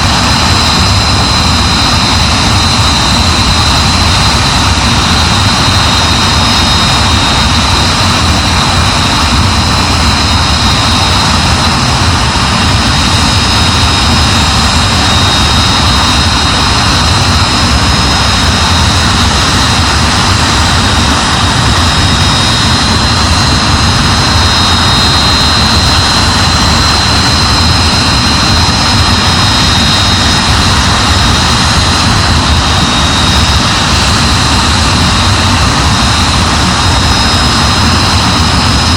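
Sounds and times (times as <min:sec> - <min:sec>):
jet engine running with whine: 0:00.0 - 0:38.9.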